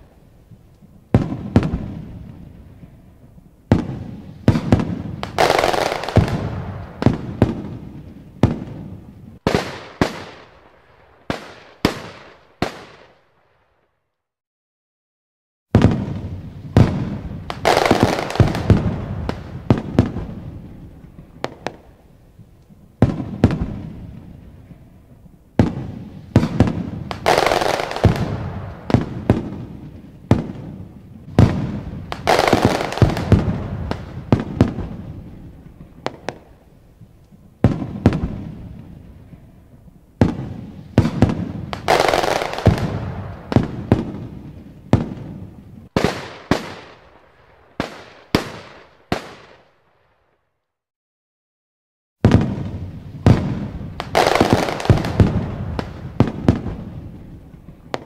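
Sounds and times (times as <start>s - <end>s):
fireworks bursting with echoes: 0.0s - 14.1s, 15.7s - 50.6s, 52.2s - 58.0s.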